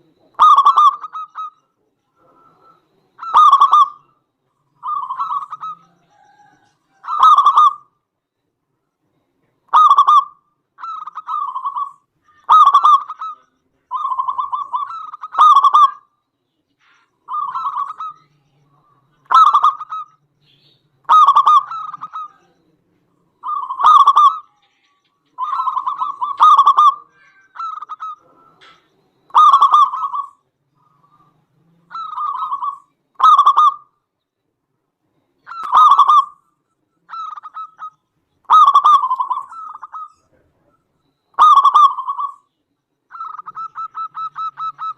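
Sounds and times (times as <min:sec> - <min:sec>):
dove cooing: 0:00.0 - 0:07.9, 0:09.5 - 0:16.1, 0:17.2 - 0:20.2, 0:21.0 - 0:33.9, 0:35.4 - 0:36.4, 0:37.0 - 0:42.5, 0:43.1 - 0:44.9.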